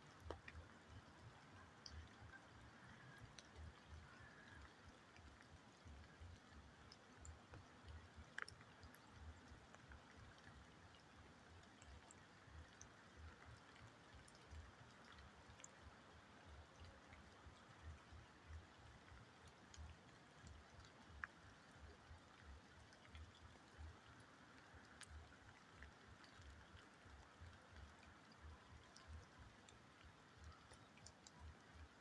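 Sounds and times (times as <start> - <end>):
tiny ticks: 0.0 - 32.0.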